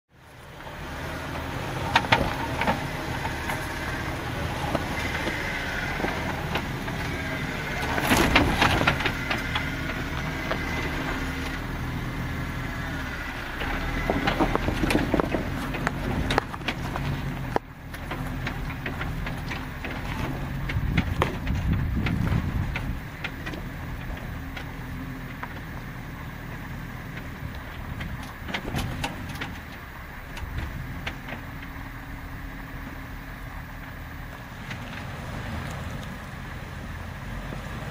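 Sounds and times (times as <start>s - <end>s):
off-road vehicle engine at low revs: 0.1s - 37.9s
tyres crunching over rock: 1.4s - 32.5s.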